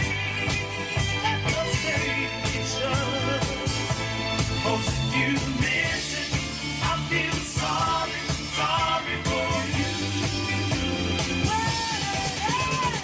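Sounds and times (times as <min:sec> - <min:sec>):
rock song with singing: 0:00.0 - 0:13.0.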